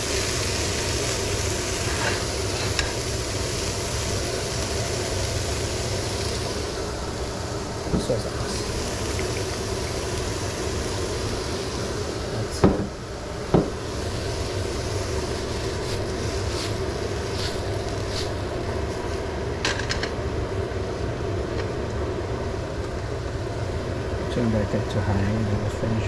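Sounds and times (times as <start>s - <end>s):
low rumbling hum: 0.0s - 26.0s.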